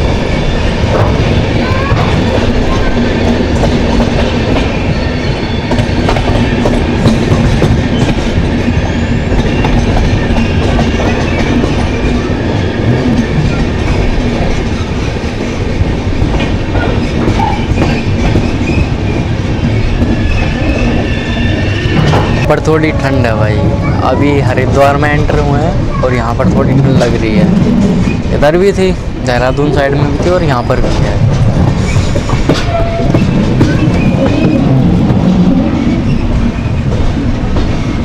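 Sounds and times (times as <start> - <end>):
train rumble: 0.0 - 38.0.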